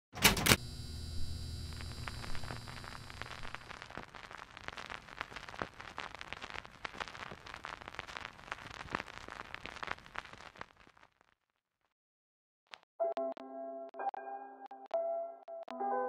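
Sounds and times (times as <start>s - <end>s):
vinyl record crackle: 0.6s - 11.5s, 12.7s - 16.0s.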